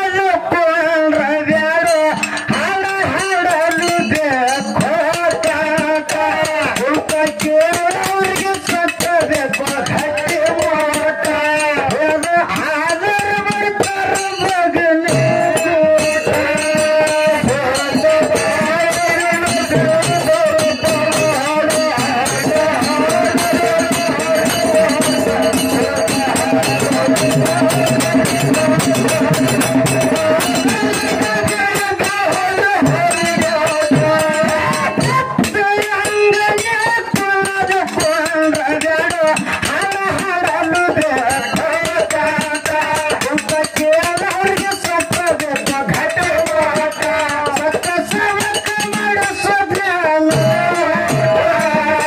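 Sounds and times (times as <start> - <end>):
person singing: 0.0 - 52.0
rattling percussion beat: 0.0 - 52.0.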